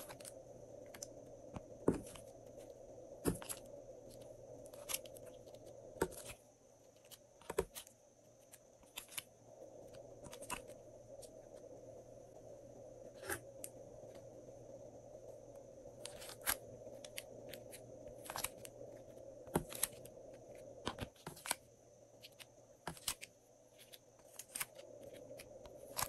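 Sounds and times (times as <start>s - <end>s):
faint room hum: 0.0s - 26.0s.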